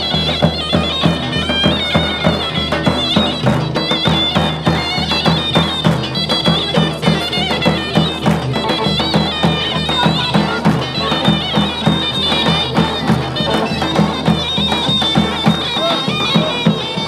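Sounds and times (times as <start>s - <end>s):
shrill wind instrument melody: 0.0s - 17.0s
steady drum beat: 0.0s - 17.0s.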